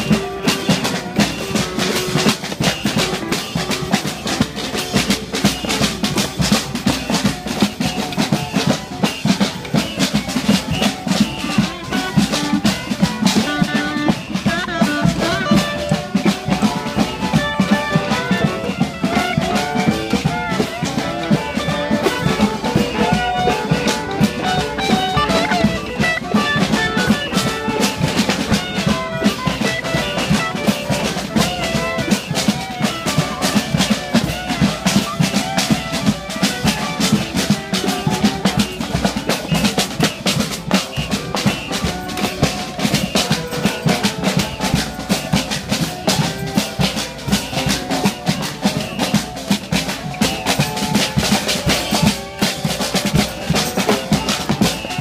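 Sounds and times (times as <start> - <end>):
band instruments playing tune: 0.0 - 55.0
marching band drumming: 0.0 - 55.0.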